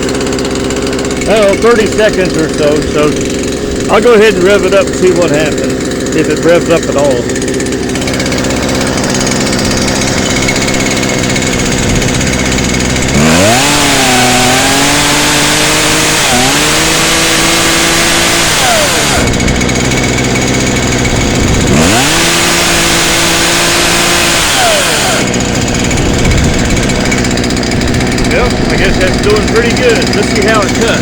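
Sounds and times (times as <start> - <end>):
chainsaw idling and revving: 0.0 - 31.0.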